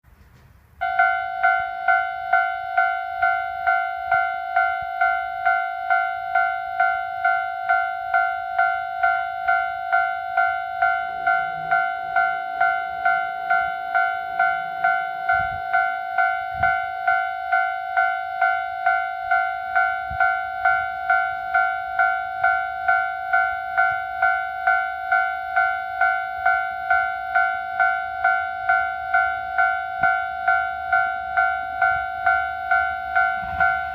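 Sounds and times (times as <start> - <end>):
level crossing warning bell: 0.8 - 33.9.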